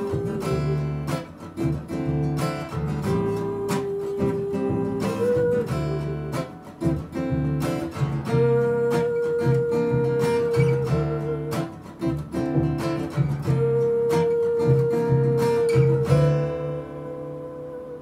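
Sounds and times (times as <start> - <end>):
woman singing long notes: 0.0 - 1.8, 2.9 - 7.0, 8.1 - 18.0
plucked double bass: 0.0 - 18.0
strummed acoustic guitar: 0.0 - 18.0.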